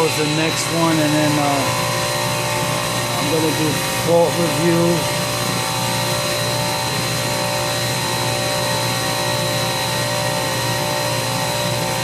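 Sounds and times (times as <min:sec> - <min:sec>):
chiller mechanical hum: 0:00.0 - 0:12.0.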